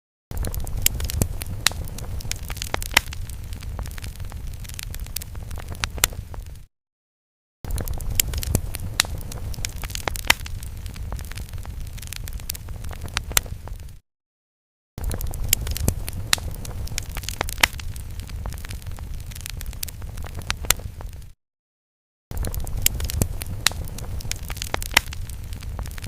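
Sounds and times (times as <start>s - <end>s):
fire crackling and popping: 0.3s - 6.7s, 7.7s - 14.0s, 15.0s - 21.4s, 22.3s - 26.0s.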